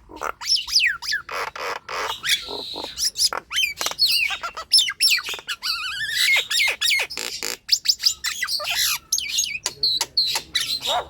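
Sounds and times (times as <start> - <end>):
myna whistling and squawking: 0.1 - 11.0.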